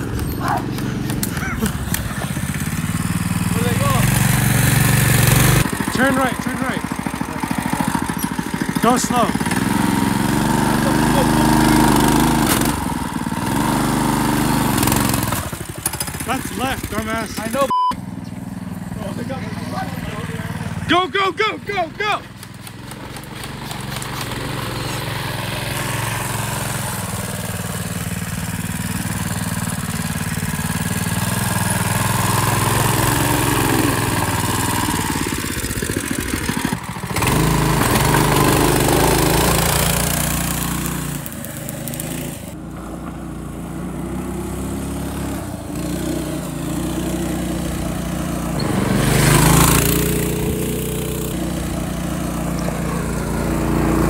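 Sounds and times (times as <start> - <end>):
small engine revving: 0.0 - 21.5, 22.3 - 54.0.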